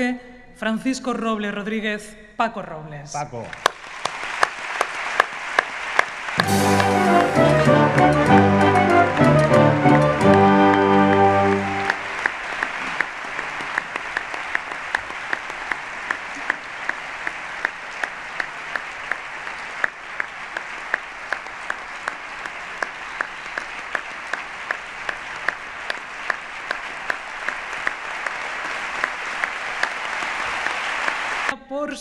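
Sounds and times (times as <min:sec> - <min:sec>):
sharp rhythmic claps: 0:03.4 - 0:31.5
audience applauding: 0:03.5 - 0:31.5.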